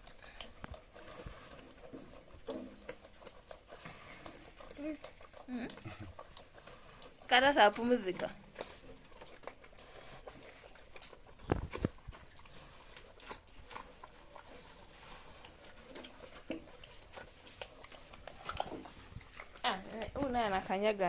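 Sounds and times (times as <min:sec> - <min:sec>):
pigs grunting: 0:01.1 - 0:20.2.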